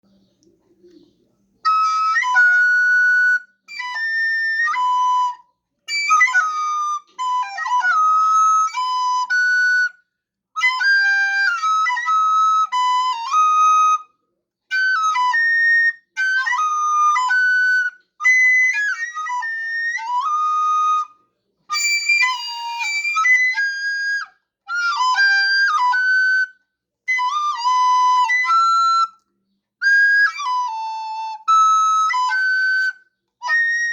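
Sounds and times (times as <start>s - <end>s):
flute-like wind instrument melody: 1.6s - 10.0s, 10.6s - 29.2s, 29.8s - 33.9s.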